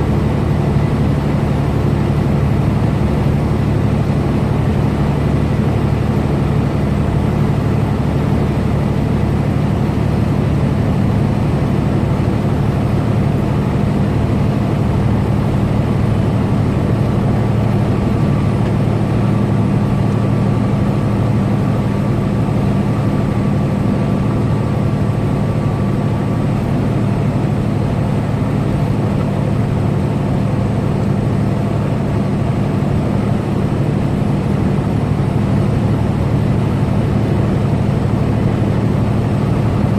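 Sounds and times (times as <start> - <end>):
road noise: 0.0 - 39.9
truck diesel engine cruising: 0.0 - 39.9.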